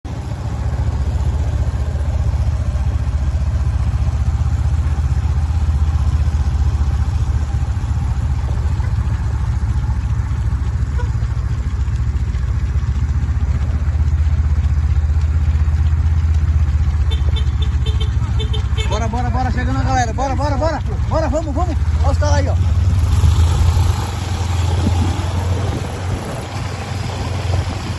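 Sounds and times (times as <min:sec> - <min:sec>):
vehicle engine running low: 0:00.1 - 0:27.9.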